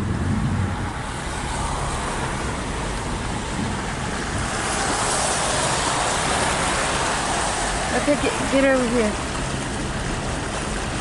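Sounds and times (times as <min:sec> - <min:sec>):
low engine rumble: 0:00.0 - 0:11.0
water spraying against car: 0:00.0 - 0:11.0.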